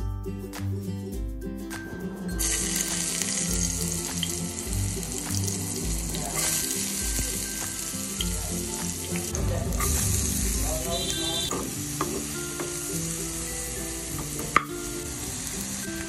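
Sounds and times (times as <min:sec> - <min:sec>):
background music with steady beat: 0:00.0 - 0:16.0
hot oil sizzling in frying pan: 0:02.4 - 0:16.0.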